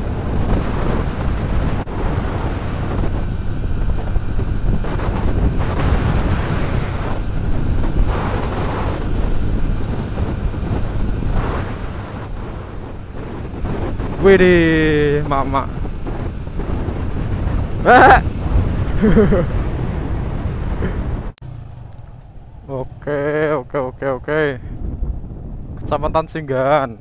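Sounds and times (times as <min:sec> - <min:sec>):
vehicle noise: 0:00.0 - 0:27.0
wind buffeting microphone: 0:00.0 - 0:27.0.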